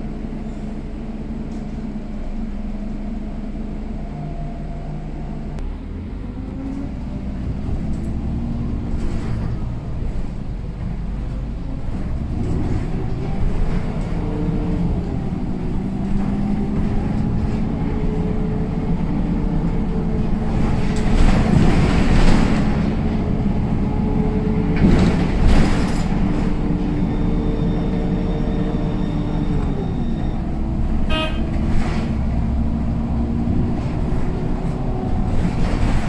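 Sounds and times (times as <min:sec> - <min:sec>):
bus diesel engine inside cabin: 0:00.0 - 0:36.0.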